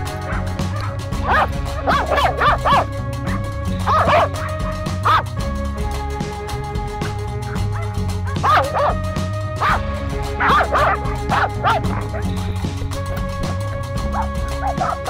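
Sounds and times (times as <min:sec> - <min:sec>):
dogs yelping barks: 0:00.0 - 0:05.3, 0:07.0 - 0:12.6, 0:13.4 - 0:15.0
background music with sustained chords: 0:00.0 - 0:15.0.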